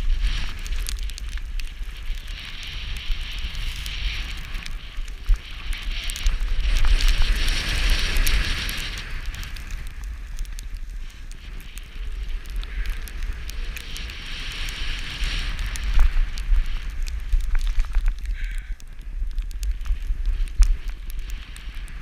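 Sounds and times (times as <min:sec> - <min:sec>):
crackles: 0:00.0 - 0:22.0
skis scraping over snow: 0:00.0 - 0:22.0
wind buffeting microphone: 0:00.0 - 0:22.0.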